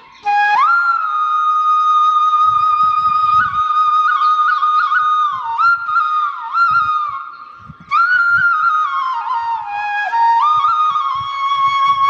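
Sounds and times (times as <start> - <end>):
solo flute: 0.0 - 12.0.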